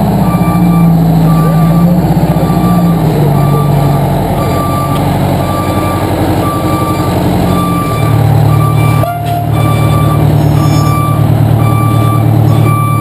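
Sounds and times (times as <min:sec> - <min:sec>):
fire engine running: 0:00.0 - 0:13.0
reverse alarm beeping: 0:00.2 - 0:13.0.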